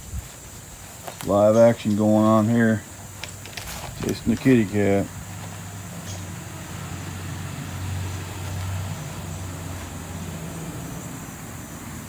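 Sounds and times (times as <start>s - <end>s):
constant high hiss: 0.0s - 12.0s.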